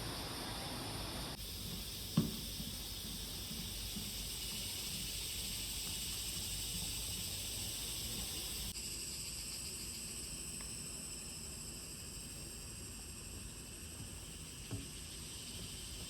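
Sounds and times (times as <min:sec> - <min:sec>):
insects shrilling: 0:00.0 - 0:16.0.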